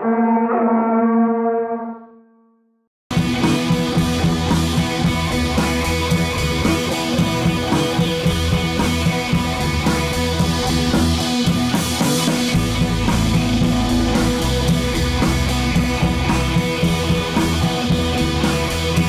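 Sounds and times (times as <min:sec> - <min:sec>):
rock music with drums and guitar: 0:03.1 - 0:19.0.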